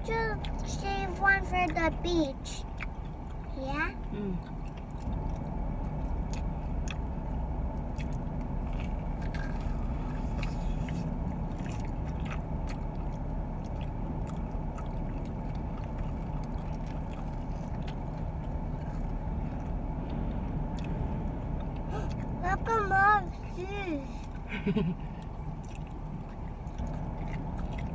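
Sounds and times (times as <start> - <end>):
low rumble inside car cabin: 0.0 - 27.9
crunching and clicking from chewing: 2.6 - 22.4, 25.2 - 27.9.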